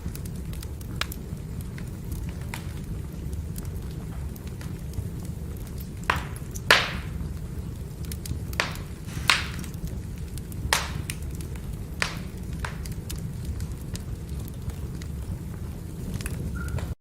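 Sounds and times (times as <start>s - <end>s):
burning logs popping: 0.0s - 17.0s
low rumble of flames: 0.0s - 17.0s.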